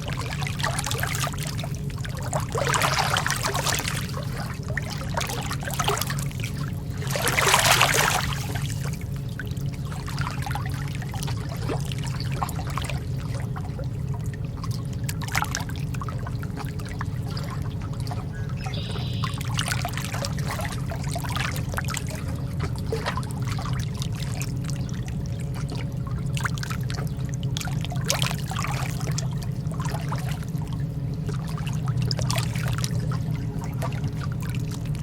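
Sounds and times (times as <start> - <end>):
water lapping against shore: 0.0 - 35.0.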